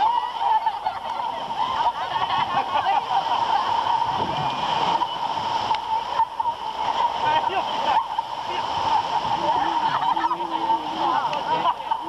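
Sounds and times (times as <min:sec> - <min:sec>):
seawater splashing and sloshing: 0:00.0 - 0:12.0.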